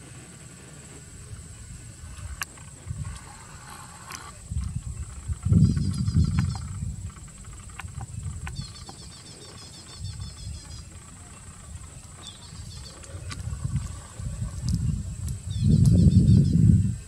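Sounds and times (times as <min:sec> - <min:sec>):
high-pitched insect-like whine: 0:00.0 - 0:17.0
small bird chirping trills: 0:00.4 - 0:17.0
faint clicks: 0:01.2 - 0:16.1.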